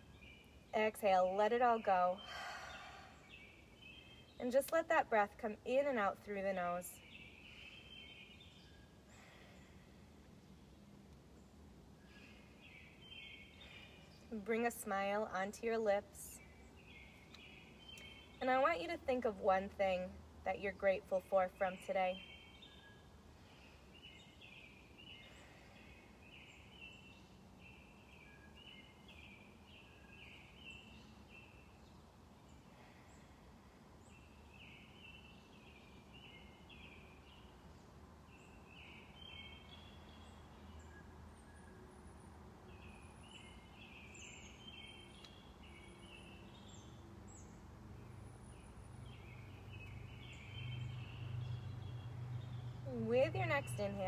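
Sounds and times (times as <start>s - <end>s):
faint birds chirping: 0.0s - 54.0s
quiet outdoor background noise: 0.0s - 54.0s.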